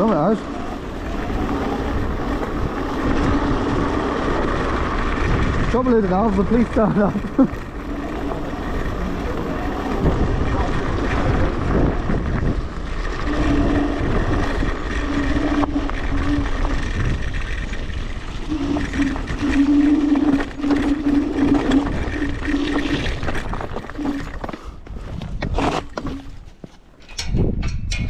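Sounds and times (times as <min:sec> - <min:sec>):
steady low drone: 0:00.0 - 0:24.8
wind and riding rumble: 0:00.0 - 0:28.0.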